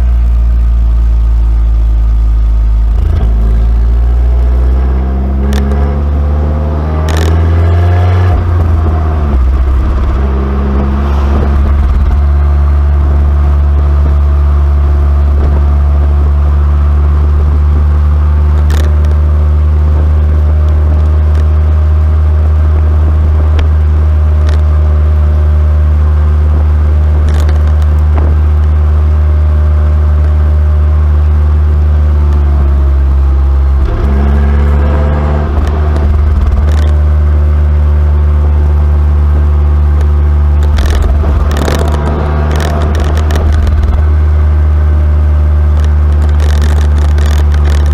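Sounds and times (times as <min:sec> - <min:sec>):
car engine droning: 0:00.0 - 0:47.9.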